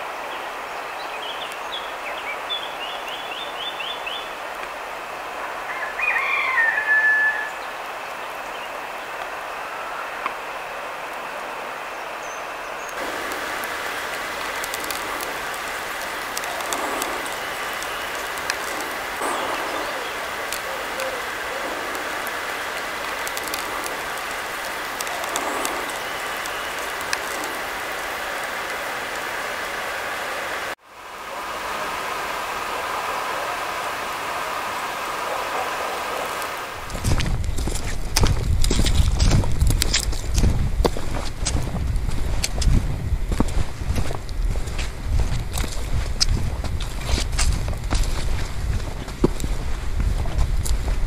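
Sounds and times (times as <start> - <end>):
running water rushing: 0.0 - 51.0.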